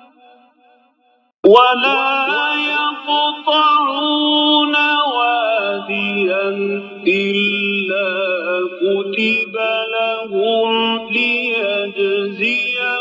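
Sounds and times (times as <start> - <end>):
person chanting recitation: 1.4 - 13.0.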